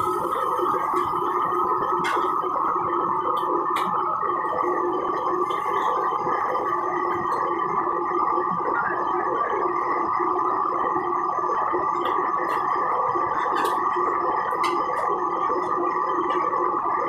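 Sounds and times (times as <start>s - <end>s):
gas burners roaring: 0.0s - 17.0s.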